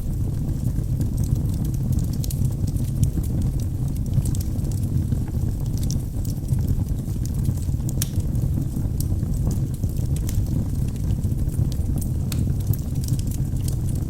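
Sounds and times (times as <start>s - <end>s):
logs crackling and popping: 0.0s - 14.0s
rumble of flames: 0.0s - 14.0s.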